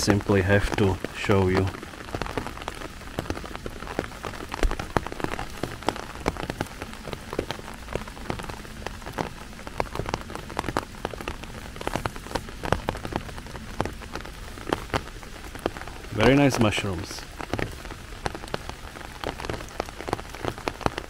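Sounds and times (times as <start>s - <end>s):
sharp raindrop taps: 0.0s - 21.0s
steady rain: 0.0s - 21.0s.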